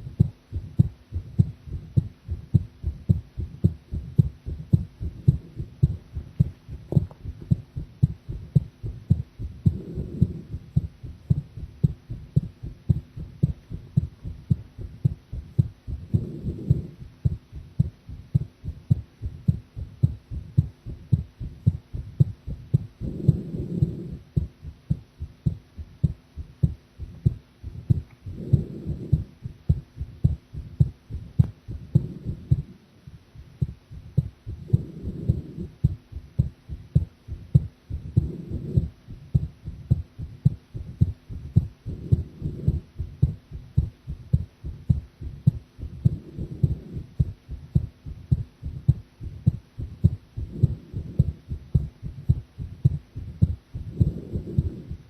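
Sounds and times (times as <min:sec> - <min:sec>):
heartbeat thumps: 0:00.0 - 0:55.0.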